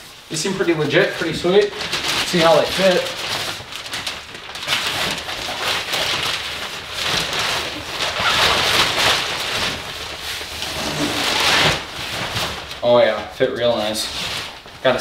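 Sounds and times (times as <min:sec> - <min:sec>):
plastic bag rustling and crinkling: 0:00.3 - 0:15.0.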